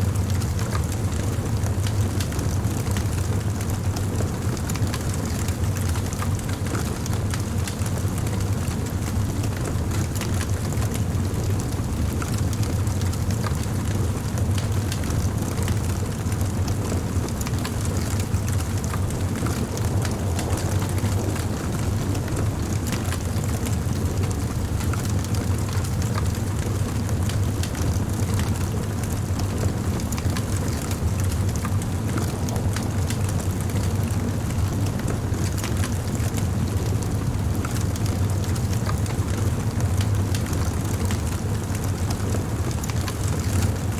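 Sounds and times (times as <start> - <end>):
low rumble of flames: 0.0 - 43.9
burning wood crackling and popping: 0.1 - 43.9.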